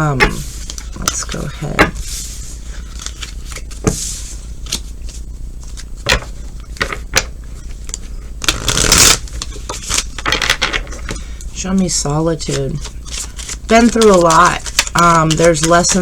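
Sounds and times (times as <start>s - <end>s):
cards being shuffled: 0.0s - 11.2s, 11.8s - 16.0s
cards riffling: 0.3s - 11.4s, 12.4s - 16.0s.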